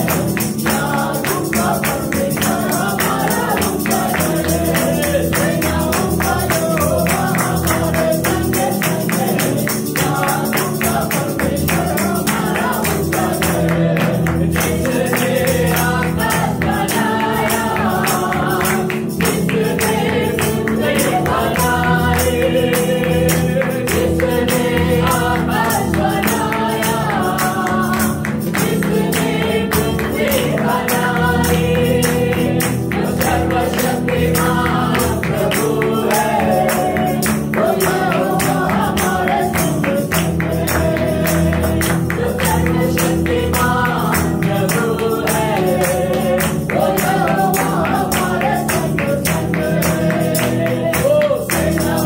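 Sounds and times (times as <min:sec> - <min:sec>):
tambourine beat: 0:00.0 - 0:52.0
worship music chords and melody: 0:00.0 - 0:52.0.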